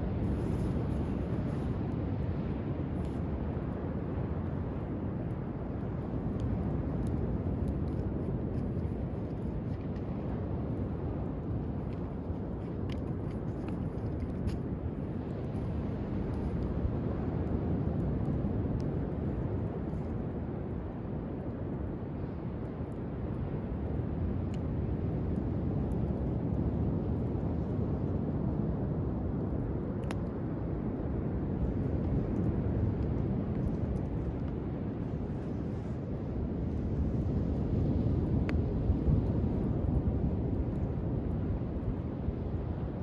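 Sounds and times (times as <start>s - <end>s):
wind: 0.0s - 43.0s
fire crackling: 0.1s - 43.0s.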